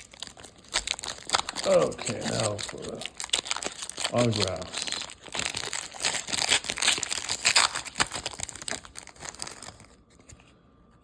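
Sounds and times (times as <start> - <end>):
plastic wrapping crinkling: 0.0 - 10.4.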